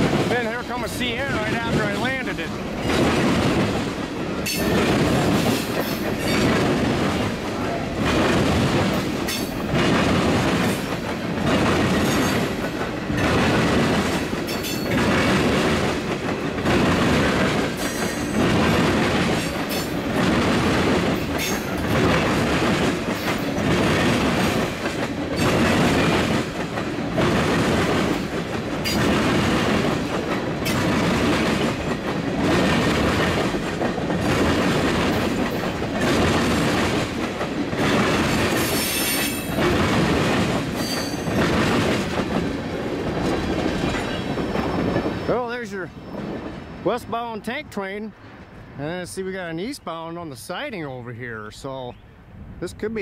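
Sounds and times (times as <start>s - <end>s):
train wheels clacking: 0.0s - 47.0s
rumble of rail cars: 0.0s - 53.0s.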